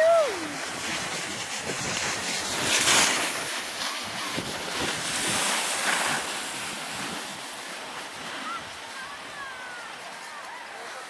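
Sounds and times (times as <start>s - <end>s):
wind on microphone: 0.0s - 10.2s
skis sliding over snow: 0.0s - 11.0s.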